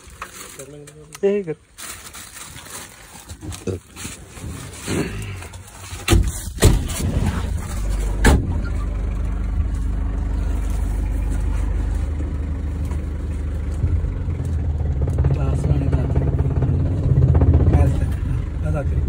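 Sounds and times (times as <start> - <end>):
car engine running: 3.0 - 19.0.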